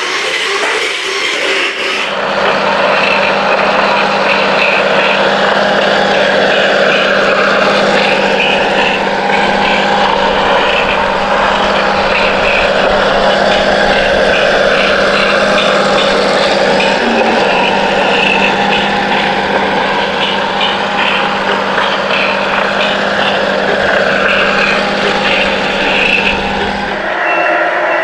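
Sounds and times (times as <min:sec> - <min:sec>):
toy truck electric motor hum: 0:00.0 - 0:27.2.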